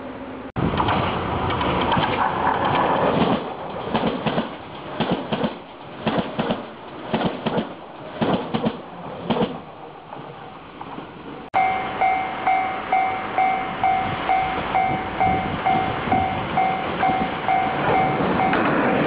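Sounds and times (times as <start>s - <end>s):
train rushing noise: 0.0s - 19.0s
train wheels clicking over rail joints: 0.6s - 12.1s, 14.2s - 19.0s.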